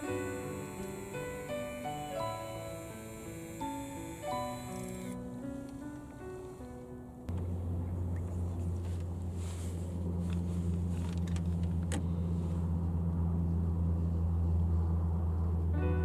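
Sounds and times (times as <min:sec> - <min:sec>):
low motor hum: 0:00.0 - 0:05.2, 0:07.3 - 0:16.0.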